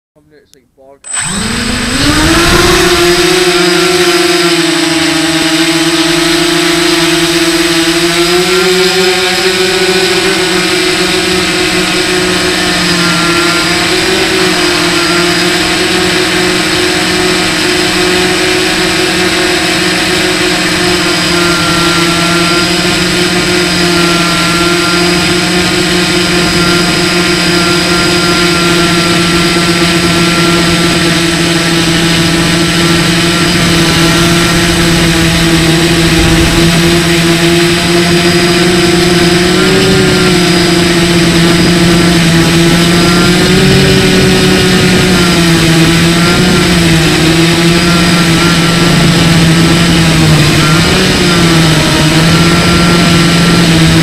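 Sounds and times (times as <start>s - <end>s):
quadcopter propellers droning: 1.0s - 54.0s.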